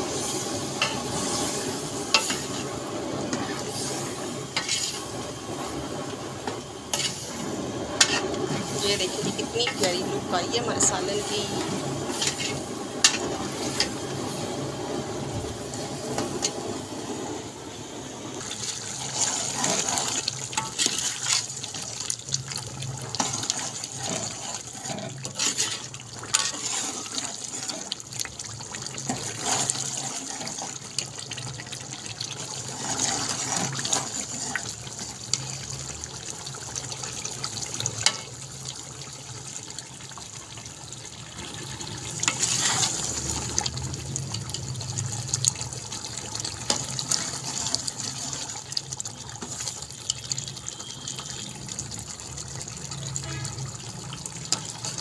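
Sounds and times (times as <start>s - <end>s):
curry bubbling in a pot: 0.0s - 55.0s.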